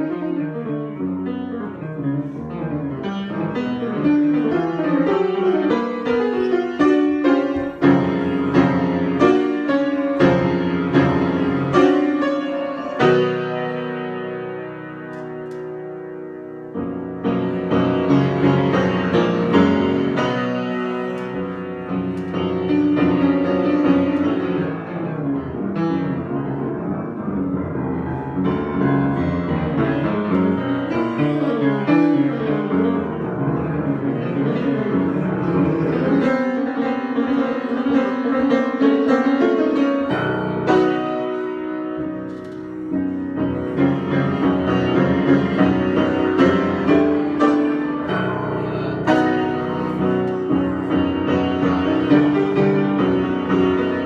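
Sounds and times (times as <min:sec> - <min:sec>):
solo piano improvisation: 0:00.0 - 0:54.0.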